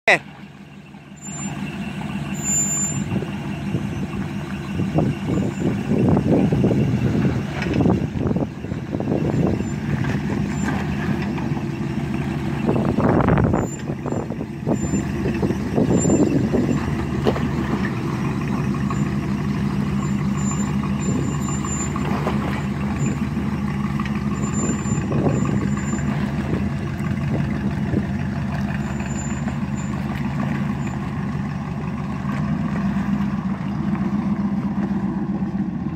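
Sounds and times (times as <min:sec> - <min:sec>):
pickup truck engine revving: 0:00.2 - 0:35.9.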